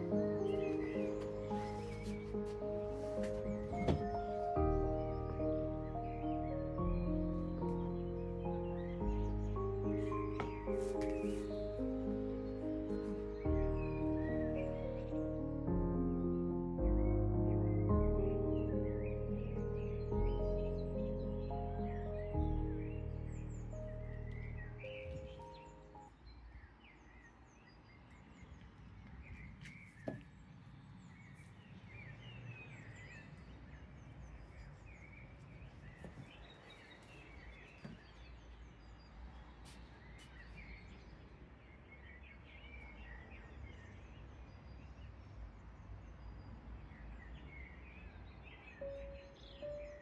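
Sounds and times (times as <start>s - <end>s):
small birds chirping: 0.0s - 15.6s, 16.8s - 50.0s.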